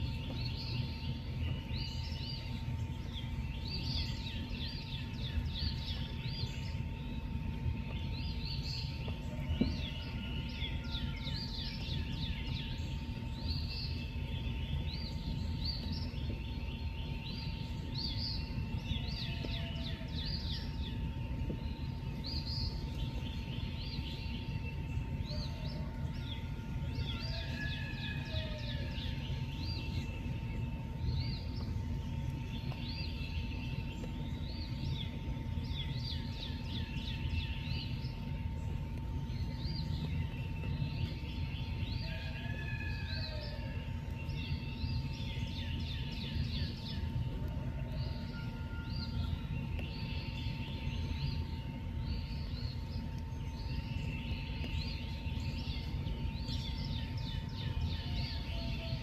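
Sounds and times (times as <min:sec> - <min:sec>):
steady low rumble: 0:00.0 - 0:42.4, 0:43.0 - 0:59.0.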